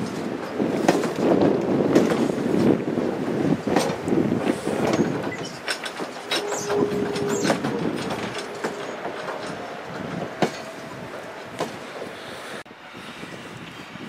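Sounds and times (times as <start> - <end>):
train wheels clicking over rails: 0.0 - 12.7.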